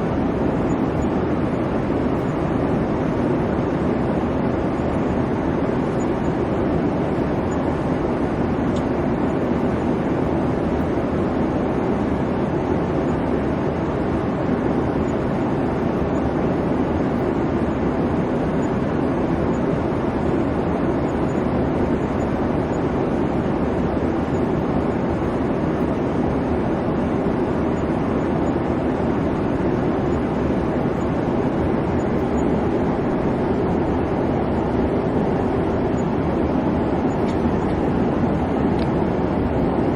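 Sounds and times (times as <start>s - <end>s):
airplane cabin jet engine hum: 0.0s - 39.9s.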